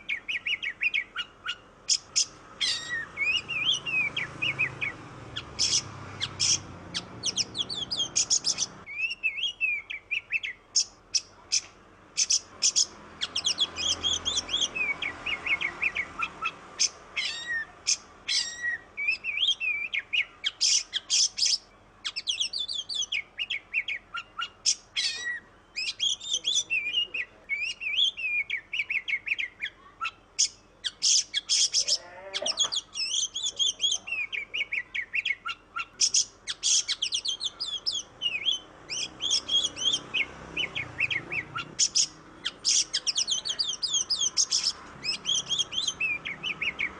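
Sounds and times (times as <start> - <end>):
bird singing whistled song: 0.0 - 46.9.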